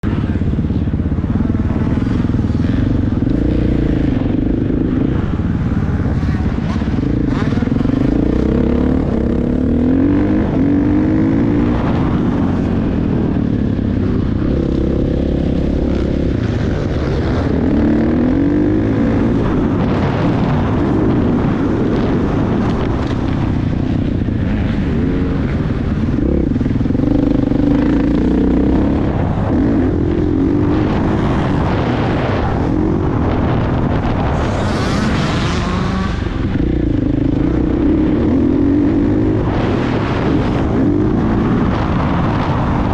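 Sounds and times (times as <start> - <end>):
motocross bike engine revving: 1.2 - 42.9.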